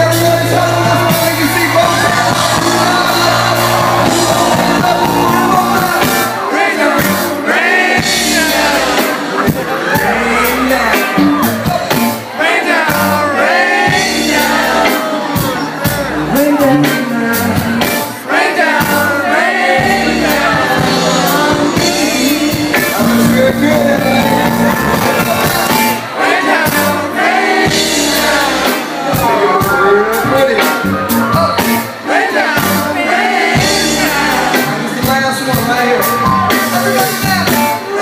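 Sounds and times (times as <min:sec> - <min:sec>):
person singing: 0:00.0 - 0:38.0
soul band playing: 0:00.0 - 0:38.0.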